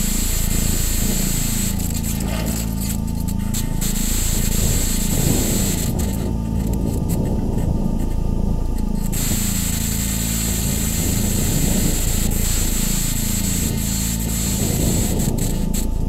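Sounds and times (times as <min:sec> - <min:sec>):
electronic noise drone: 0:00.0 - 0:16.0.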